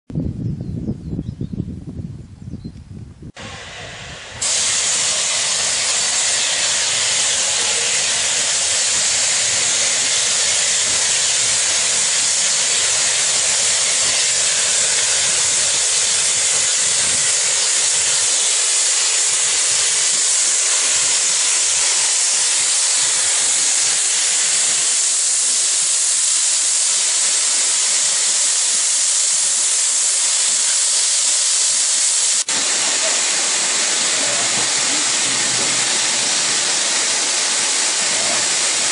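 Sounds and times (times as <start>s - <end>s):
steam hissing from locomotives: 3.3s - 38.9s.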